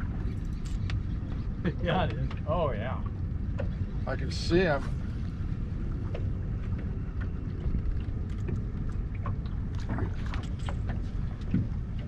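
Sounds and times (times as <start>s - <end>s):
low rumble aboard boat: 0.0s - 12.0s.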